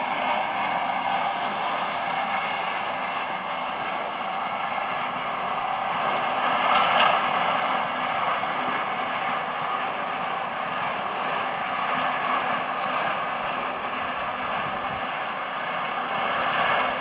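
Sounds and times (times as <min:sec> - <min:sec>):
horse-drawn mower whirring and clattering: 0:00.0 - 0:17.0.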